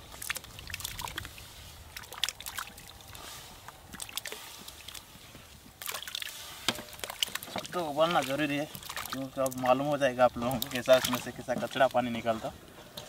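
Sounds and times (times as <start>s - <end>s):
kidneys splashing into water: 0.0s - 5.1s, 5.7s - 12.0s.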